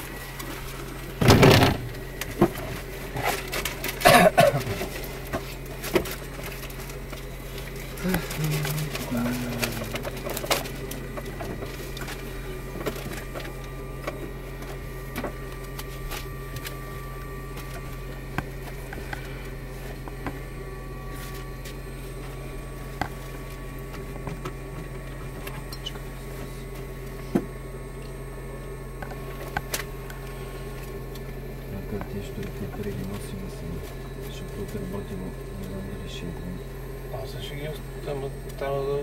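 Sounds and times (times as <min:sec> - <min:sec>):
electrical hum: 0:00.0 - 0:39.0.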